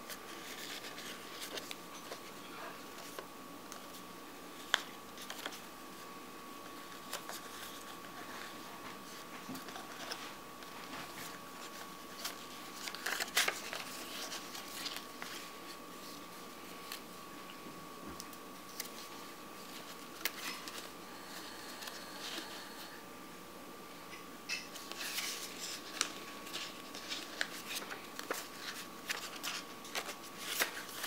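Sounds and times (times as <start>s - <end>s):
paper crinkling: 0.0s - 4.0s, 4.6s - 17.5s, 18.2s - 22.8s, 24.8s - 31.0s
faint high whine: 0.0s - 31.0s.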